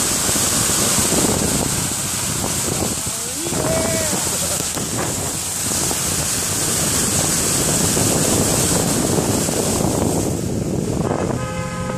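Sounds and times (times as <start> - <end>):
tyres spraying through floodwater: 0.0 - 11.9
wind on microphone: 0.0 - 11.9.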